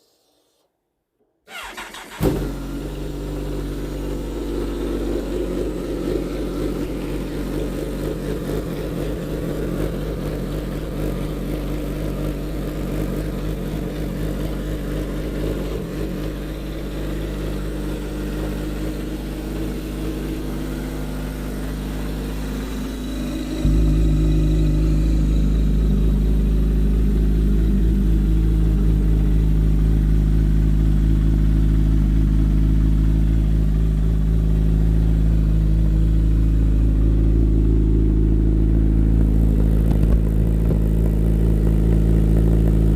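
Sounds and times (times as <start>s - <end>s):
motorcycle engine starting and idling: 1.5s - 42.9s.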